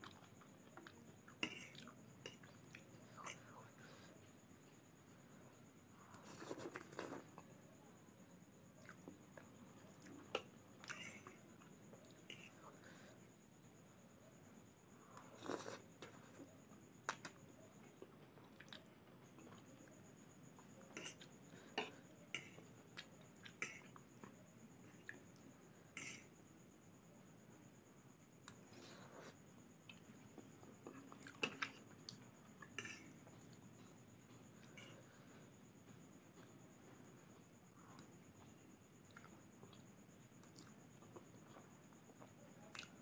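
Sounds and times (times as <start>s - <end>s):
faint chewing of noodles: 0.0s - 7.6s, 8.7s - 14.4s, 15.0s - 26.4s, 28.4s - 43.0s.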